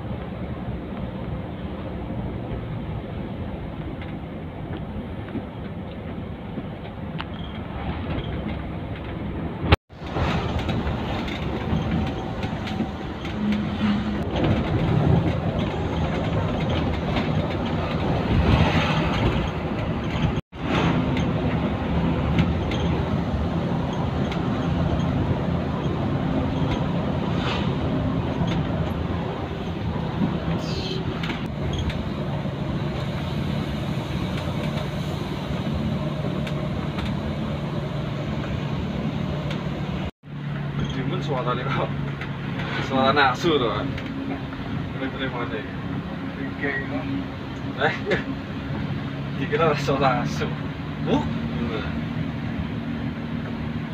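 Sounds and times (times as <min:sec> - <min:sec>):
bus engine hum: 0:00.0 - 0:53.9
road noise: 0:00.0 - 0:53.9.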